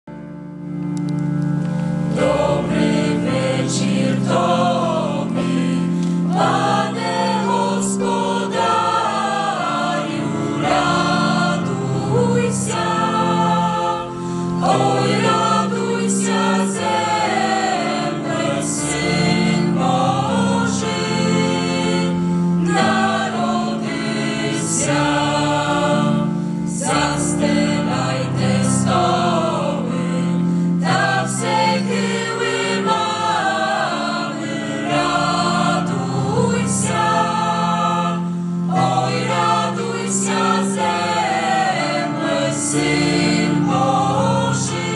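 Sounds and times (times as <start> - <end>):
sustained keyboard chords: 0.1 - 44.9
choir singing a carol: 1.6 - 44.9.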